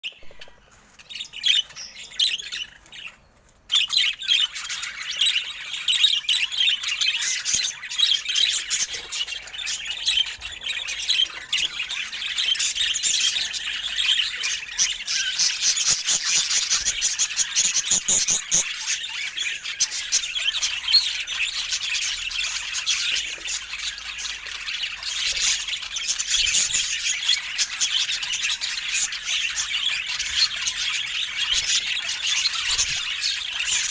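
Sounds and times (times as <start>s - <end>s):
budgerigars chattering and squawking: 0.0s - 33.9s.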